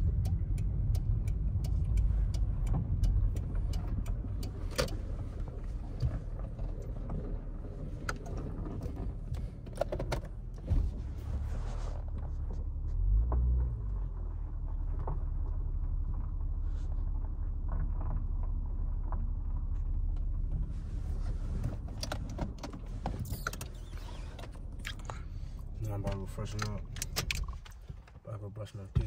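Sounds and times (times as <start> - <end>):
car engine idling: 0.0 - 29.0
clicks and rustles of movement: 1.6 - 29.0.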